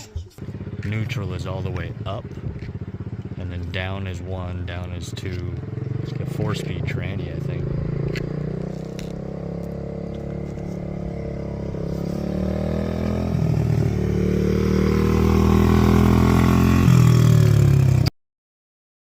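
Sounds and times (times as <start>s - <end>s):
small engine revving: 0.0s - 3.2s, 5.4s - 18.1s.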